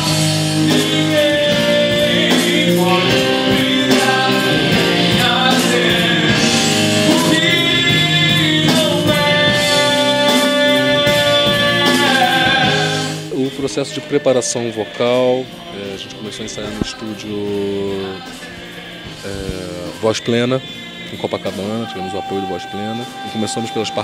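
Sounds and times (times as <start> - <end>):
men singing in harmony: 0.0 - 24.0
rock band with drums and cymbals: 0.0 - 24.0.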